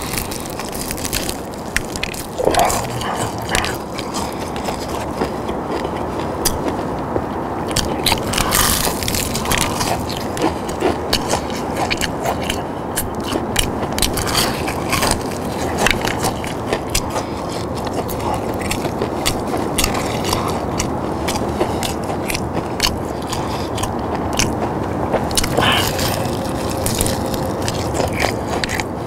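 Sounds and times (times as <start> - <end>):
crunching and chewing: 0.0 - 29.0.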